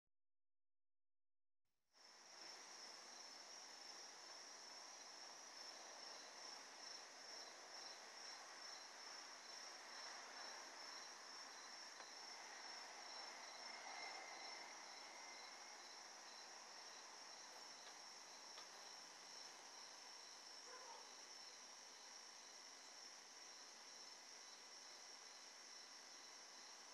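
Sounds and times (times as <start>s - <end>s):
insect chirping: 2.0s - 26.9s.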